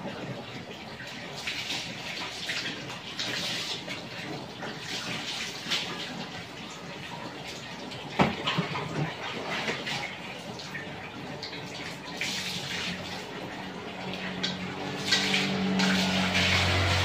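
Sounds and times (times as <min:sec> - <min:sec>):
water splashing on concrete: 0:00.0 - 0:17.0.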